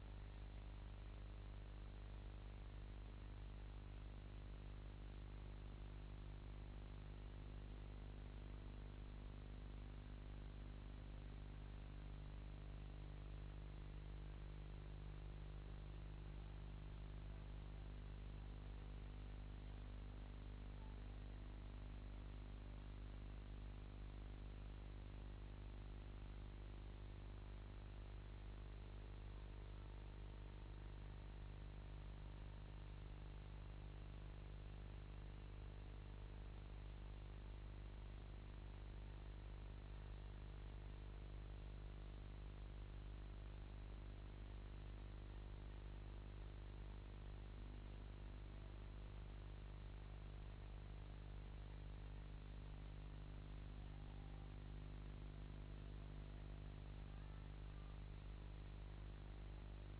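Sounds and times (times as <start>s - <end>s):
electrical hum and hiss: 0.0s - 59.9s
faint high whines: 0.0s - 59.9s.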